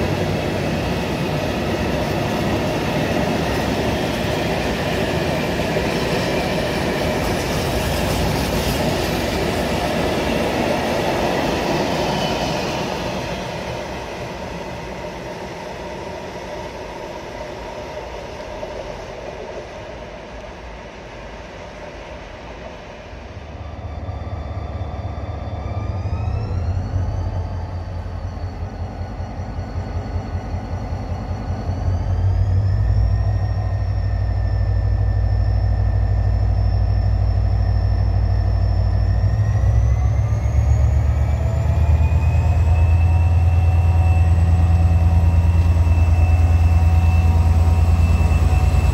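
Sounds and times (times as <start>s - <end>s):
railway wagons clickety-clack: 0.0s - 23.0s, 24.2s - 48.9s
diesel locomotive engine rumble: 0.0s - 48.9s
rising engine whine: 0.0s - 48.9s.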